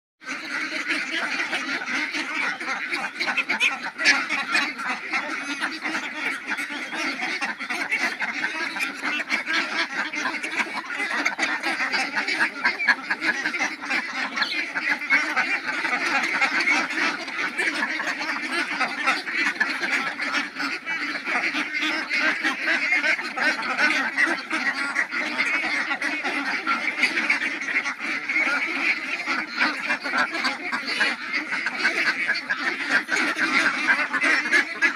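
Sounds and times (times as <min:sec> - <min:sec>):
flock of ducks quacking: 0:00.2 - 0:34.9.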